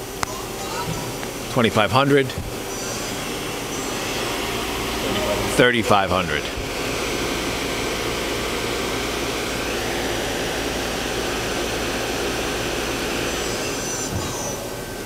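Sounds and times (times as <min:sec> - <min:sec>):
lathe spindle whirring: 0:00.0 - 0:15.0
spindle braking whine: 0:00.0 - 0:15.0.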